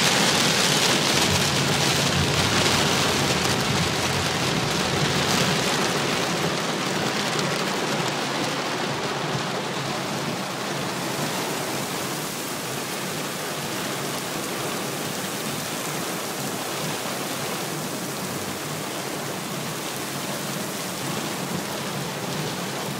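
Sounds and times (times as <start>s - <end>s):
heavy rain on a car: 0.0s - 22.9s.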